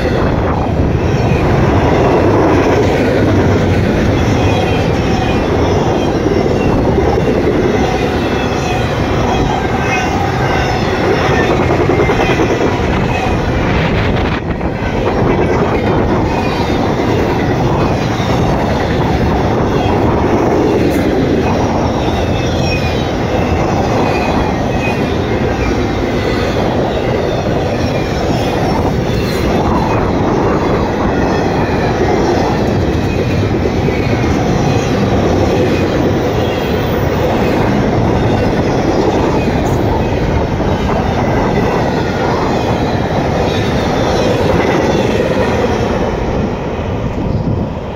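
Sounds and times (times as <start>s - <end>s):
freight train wheels on rails: 0.0s - 47.9s.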